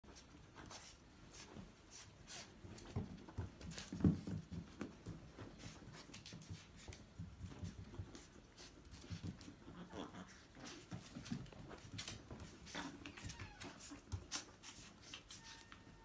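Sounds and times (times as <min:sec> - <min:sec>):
dogs scuffling: 0:00.1 - 0:16.0.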